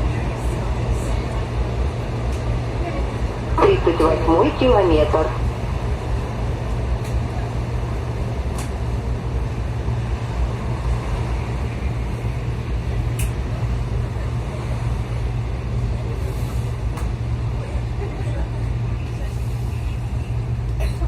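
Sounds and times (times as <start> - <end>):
train car rumble: 0.0 - 21.0.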